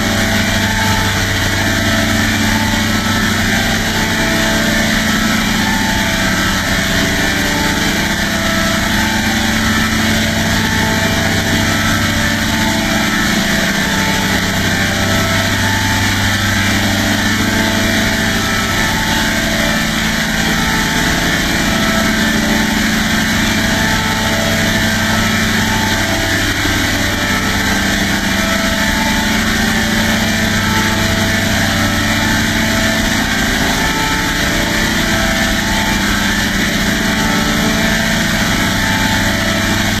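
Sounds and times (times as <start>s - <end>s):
mechanical drone: 0.0s - 40.0s.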